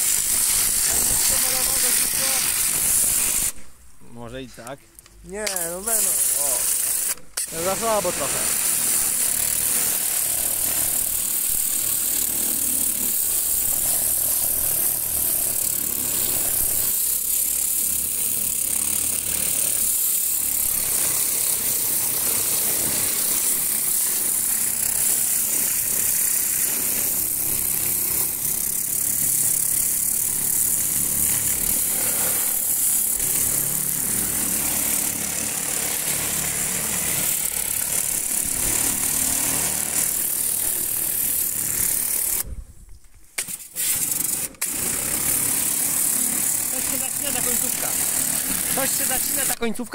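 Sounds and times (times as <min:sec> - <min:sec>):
pressure washer motor drone: 0:00.0 - 0:03.6, 0:05.6 - 0:42.4, 0:44.0 - 0:49.6
water jet spraying on metal: 0:00.0 - 0:03.7, 0:05.5 - 0:42.4, 0:43.7 - 0:49.6.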